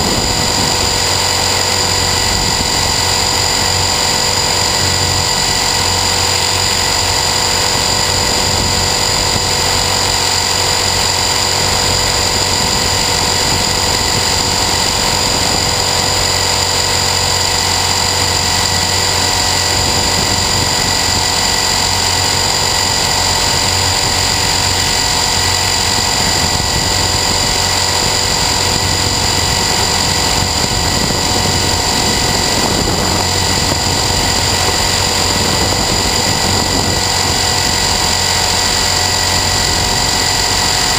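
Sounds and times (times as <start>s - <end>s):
low rotor drone: 0.0s - 40.9s
motor and gears whine: 0.0s - 40.9s.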